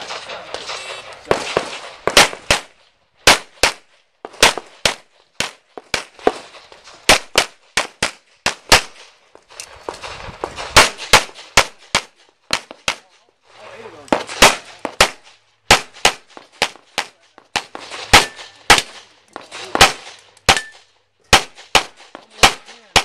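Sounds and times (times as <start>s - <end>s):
pistol shots: 0.0s - 6.4s, 7.1s - 9.0s, 10.6s - 13.1s, 14.1s - 23.0s.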